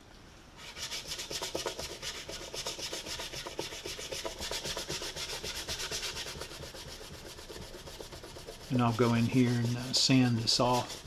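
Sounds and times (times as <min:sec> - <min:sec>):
gloved fingers rubbing wood: 0:00.6 - 0:11.0.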